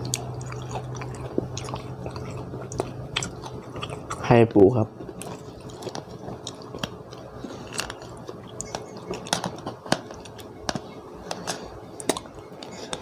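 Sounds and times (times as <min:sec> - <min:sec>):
crab shell crunching: 0:00.0 - 0:04.4, 0:05.0 - 0:13.0
chewing crab: 0:00.0 - 0:13.0.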